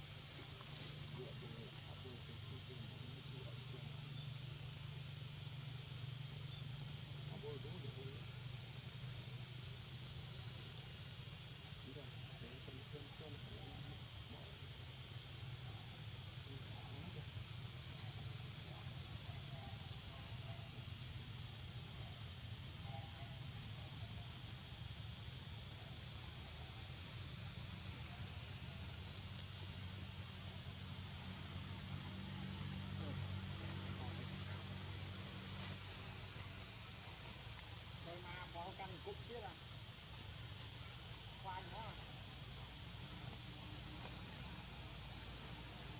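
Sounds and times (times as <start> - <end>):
insect chorus: 0.0 - 45.9.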